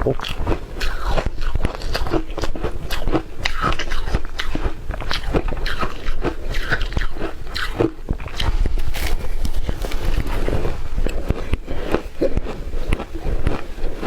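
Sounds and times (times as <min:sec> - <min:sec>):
shaved ice being chewed: 0:00.0 - 0:14.0.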